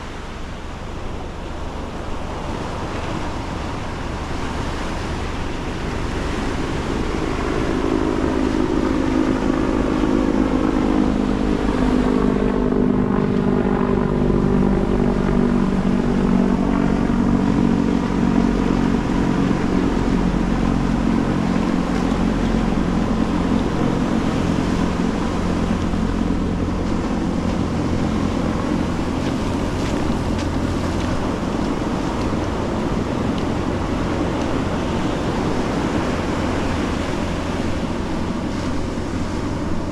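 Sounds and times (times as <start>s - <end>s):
ocean surf washing: 0.0s - 39.9s
passing engine drone: 0.0s - 39.9s.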